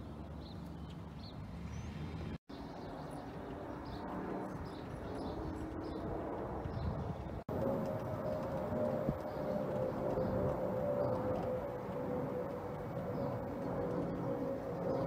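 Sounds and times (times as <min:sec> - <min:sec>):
distant aircraft rumble: 0:00.0 - 0:15.0
small birds chirping: 0:00.0 - 0:15.0.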